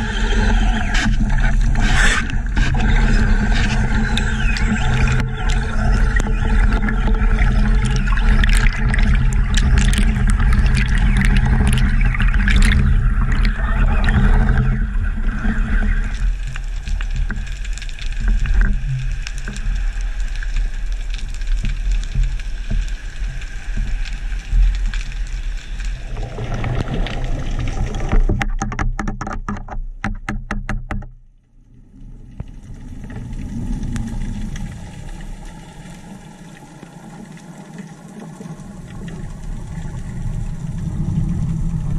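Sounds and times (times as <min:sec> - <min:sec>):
crackling bubbles: 0:00.0 - 0:29.7, 0:31.5 - 0:41.9
underwater rumble: 0:00.0 - 0:41.9.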